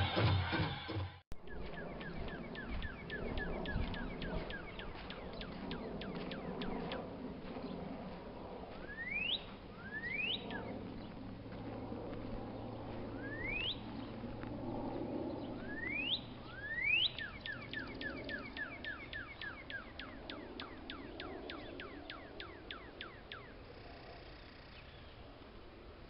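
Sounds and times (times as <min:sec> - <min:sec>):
songbird singing: 0:01.4 - 0:25.4.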